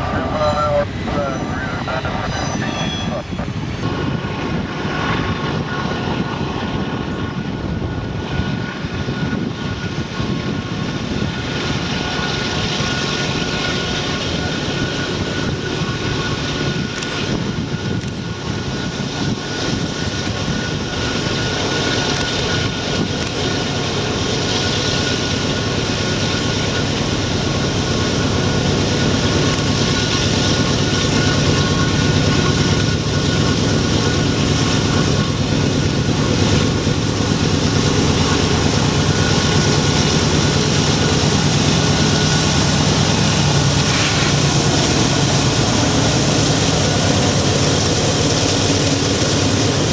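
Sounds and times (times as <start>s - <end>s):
train rumbling past: 0.0s - 49.9s.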